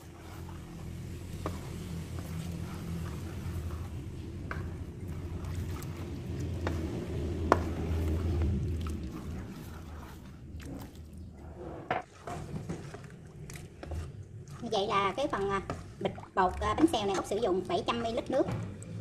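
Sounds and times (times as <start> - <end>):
batter sloshing in a bowl: 0.0 - 19.0.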